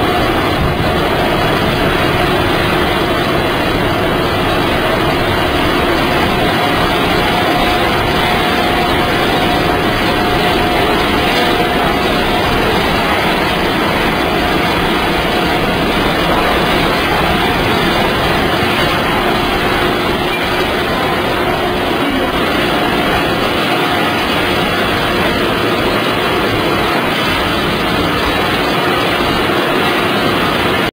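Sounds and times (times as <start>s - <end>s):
faint machine whine: 0.0s - 30.9s
machinery and conveyors humming: 0.0s - 30.9s.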